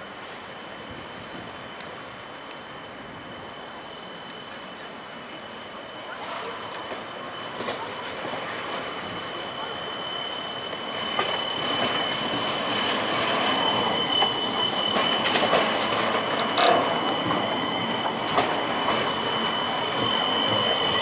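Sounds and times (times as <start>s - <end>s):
tram running on rails: 0.0s - 21.0s.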